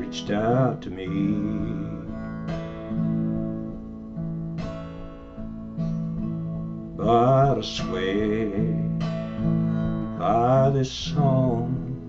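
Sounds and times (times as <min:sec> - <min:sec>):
guitar chords strummed: 0:00.0 - 0:12.0.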